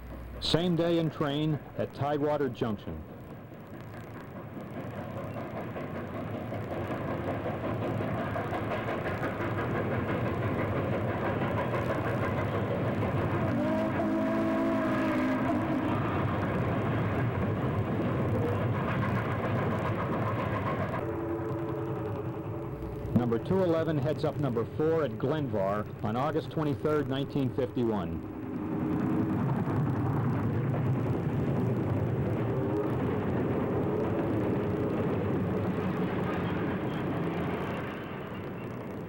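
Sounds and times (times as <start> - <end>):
steam train rumbling past: 0.0 - 39.0.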